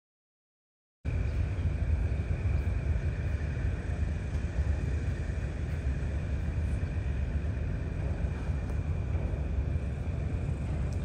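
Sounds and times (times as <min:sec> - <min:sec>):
faint high-pitched whine: 0:01.1 - 0:11.0
low outdoor rumble: 0:01.1 - 0:11.0.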